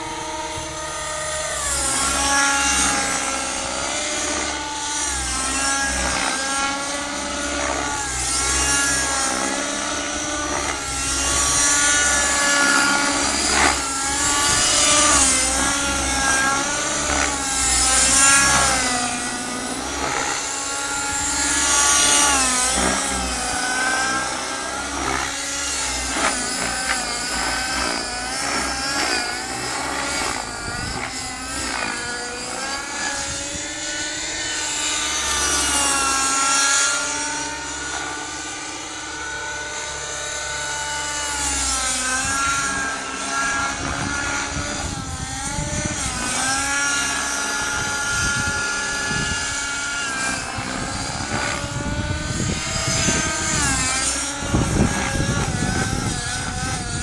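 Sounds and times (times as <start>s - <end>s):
model helicopter engine whine: 0.0s - 57.0s
rotor blades swishing: 0.0s - 57.0s.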